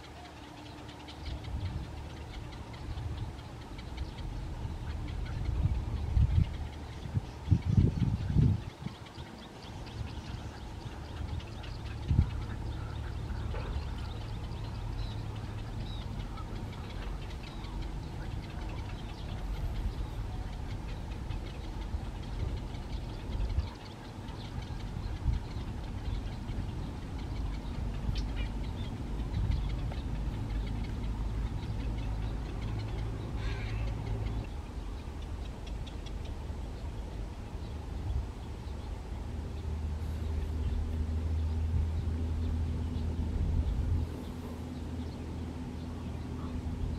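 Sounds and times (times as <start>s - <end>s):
birds chirping: 0.0s - 46.9s
steady low rumble: 0.0s - 46.9s.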